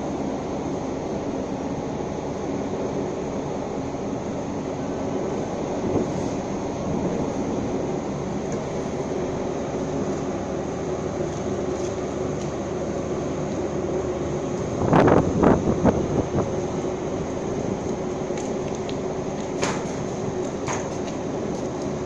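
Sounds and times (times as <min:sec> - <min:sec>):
crane machinery droning: 0:00.0 - 0:22.0.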